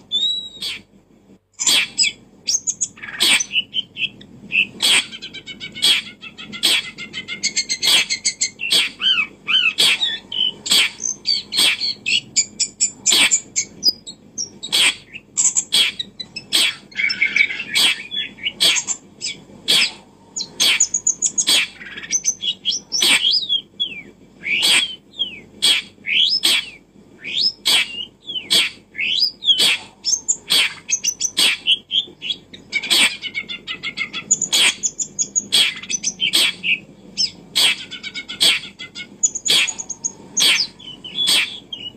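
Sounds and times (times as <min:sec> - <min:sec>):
bird chirping: 0:00.0 - 0:00.9, 0:01.6 - 0:41.9.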